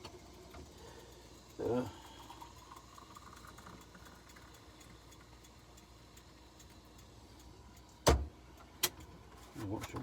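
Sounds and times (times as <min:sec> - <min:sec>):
light regular ticking: 0:00.0 - 0:09.2.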